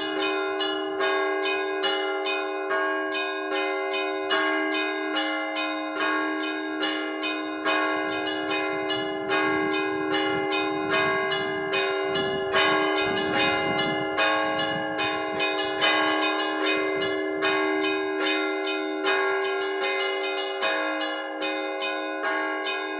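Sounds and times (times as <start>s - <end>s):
long ringing large bells: 0.0s - 22.9s.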